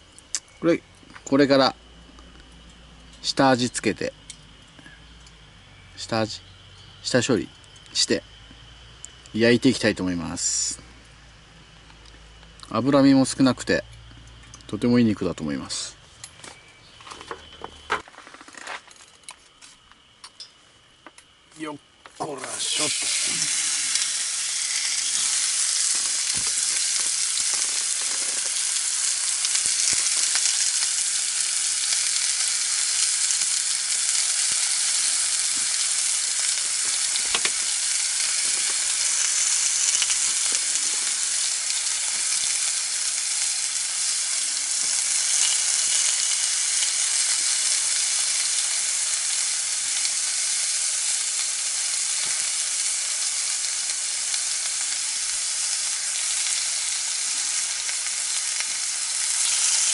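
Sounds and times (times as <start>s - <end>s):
meat sizzling on grill: 0.0s - 15.9s, 21.6s - 59.9s.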